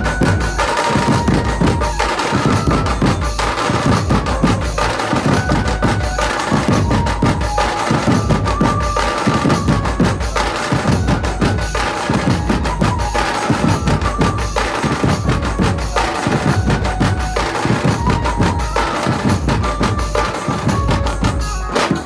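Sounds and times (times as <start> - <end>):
barrel drums beaten fast: 0.0 - 22.0
held melody notes: 0.0 - 22.0.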